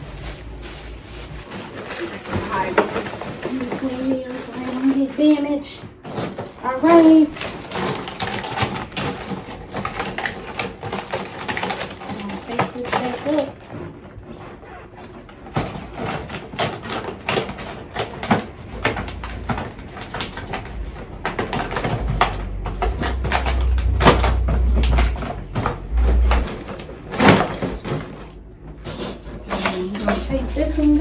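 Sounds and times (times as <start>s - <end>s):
paper crinkling: 0.0s - 31.0s.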